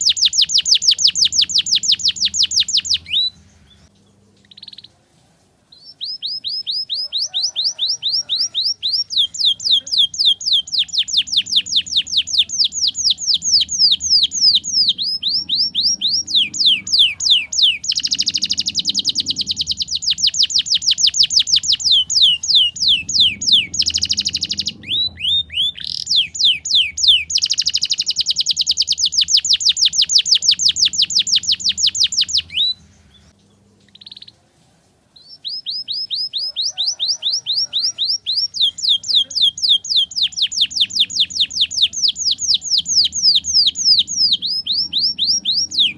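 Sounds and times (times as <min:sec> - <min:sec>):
canary singing trills: 0:00.0 - 0:05.0, 0:05.7 - 0:34.4, 0:35.1 - 0:45.9.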